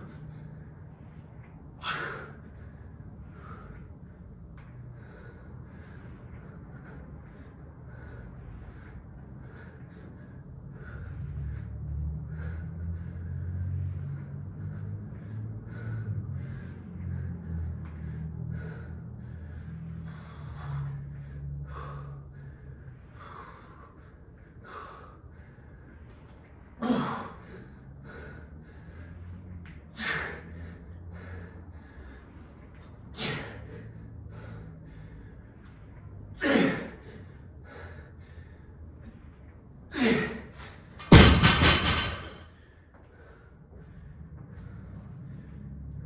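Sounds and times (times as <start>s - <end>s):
person breathing hard: 0.0s - 46.0s.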